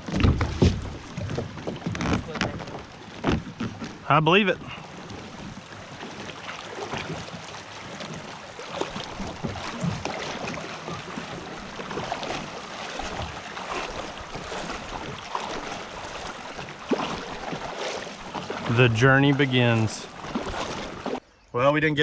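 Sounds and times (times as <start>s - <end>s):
kayak splashing in water: 0.0s - 21.2s.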